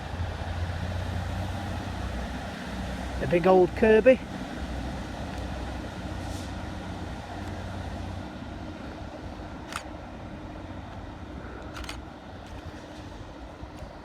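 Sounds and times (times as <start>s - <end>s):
diesel train engine droning: 0.0s - 14.0s
steady train rumble: 0.0s - 14.0s.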